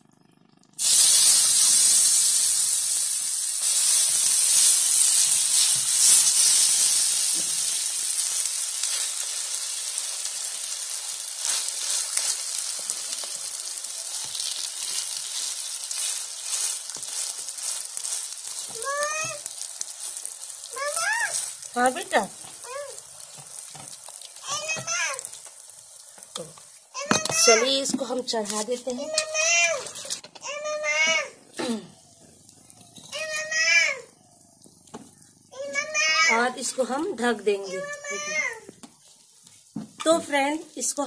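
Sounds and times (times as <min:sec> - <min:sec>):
batter sizzling in hot oil: 0:00.7 - 0:41.0.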